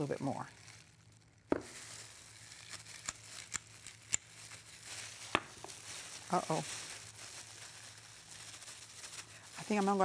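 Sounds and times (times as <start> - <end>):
plastic gloves rustling: 0.0 - 10.0.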